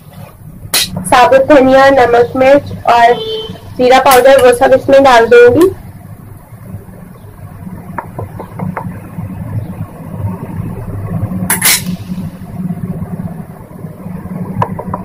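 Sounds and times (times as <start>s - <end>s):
low rumble of gas stove: 0.0s - 15.0s.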